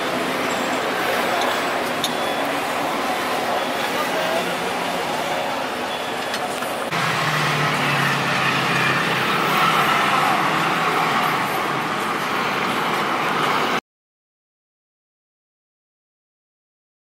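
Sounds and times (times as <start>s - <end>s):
passing road traffic: 0.0s - 13.8s
street bustle: 0.0s - 13.8s.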